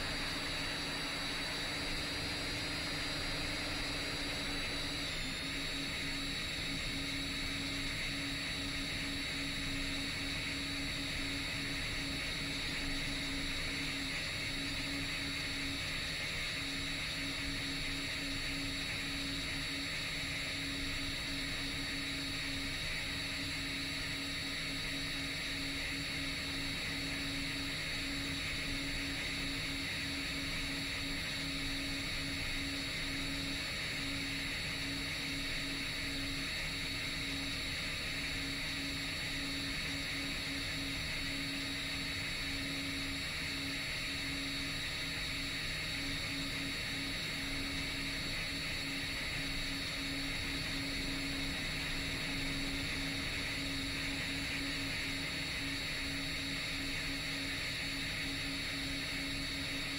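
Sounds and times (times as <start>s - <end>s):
drone motors humming and whining: 0.0s - 59.9s.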